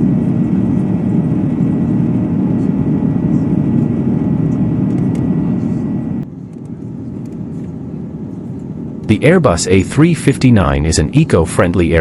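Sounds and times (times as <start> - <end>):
airliner engine rumble in cabin: 0.0 - 12.0.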